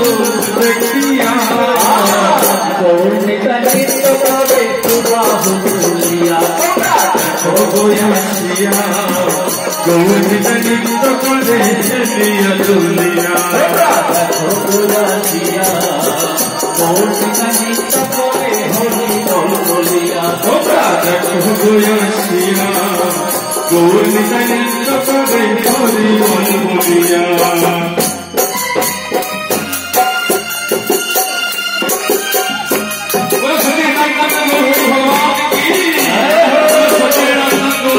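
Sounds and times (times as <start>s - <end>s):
voices singing together: 0.0s - 28.2s, 32.4s - 37.9s
hand cymbals and jingles: 0.0s - 37.9s.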